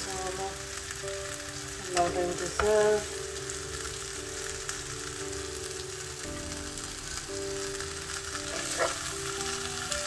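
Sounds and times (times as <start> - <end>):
fish sizzling in oil: 0.0 - 10.0
soft background music: 0.0 - 10.0
spatula turning food in pan: 0.0 - 10.0.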